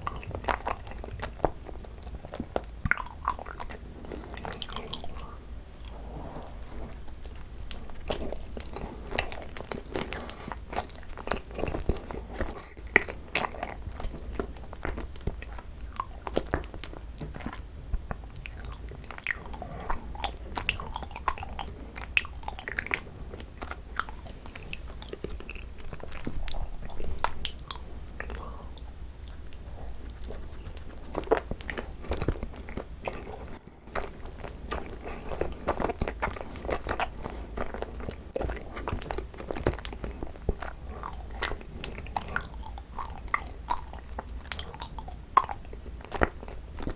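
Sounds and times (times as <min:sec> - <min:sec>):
chewing rice cakes: 0:00.0 - 0:46.9
mouth clicks and crunches: 0:00.0 - 0:46.9.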